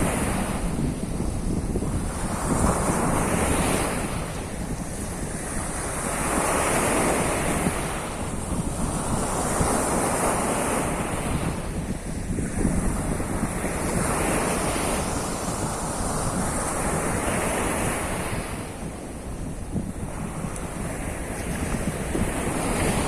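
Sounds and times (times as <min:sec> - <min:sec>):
waves breaking on shore: 0:00.0 - 0:23.0
wind rumbling on microphone: 0:00.0 - 0:23.0.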